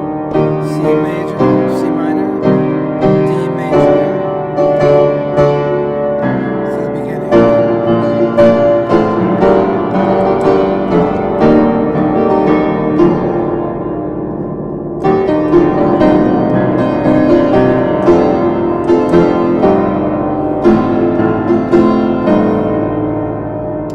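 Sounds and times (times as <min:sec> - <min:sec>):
piano playing chords: 0:00.0 - 0:23.9.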